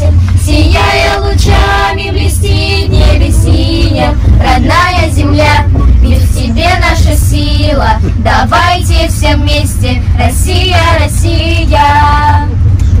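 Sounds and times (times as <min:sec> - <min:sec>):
girls singing together: 0:00.0 - 0:12.7
steady low rumble: 0:00.0 - 0:13.0.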